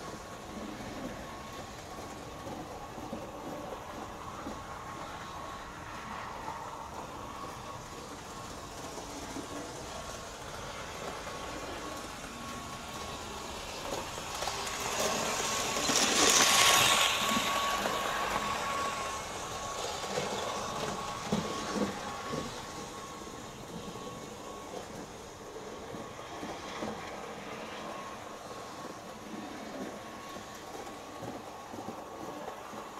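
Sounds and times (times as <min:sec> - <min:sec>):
model train motor and wheels: 0:00.0 - 0:32.9.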